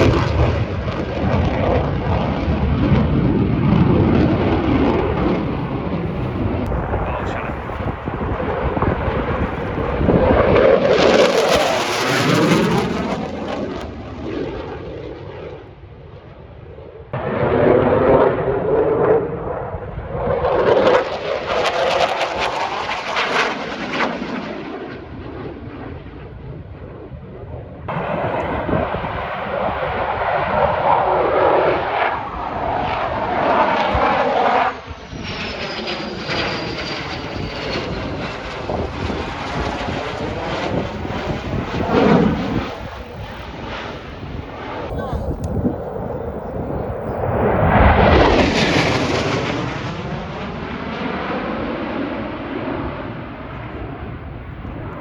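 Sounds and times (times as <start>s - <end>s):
military aircraft flying past: 0.0s - 55.0s.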